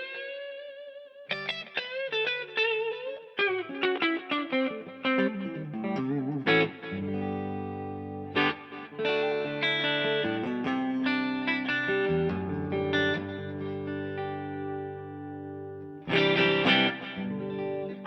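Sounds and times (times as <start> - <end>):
electric guitar with reverb: 0.0 - 18.0.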